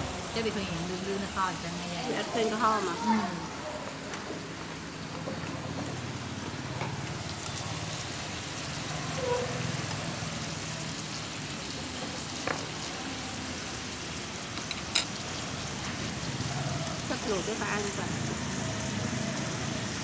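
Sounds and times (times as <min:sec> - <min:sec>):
food sizzling in broth: 0:00.0 - 0:03.6, 0:04.6 - 0:20.0.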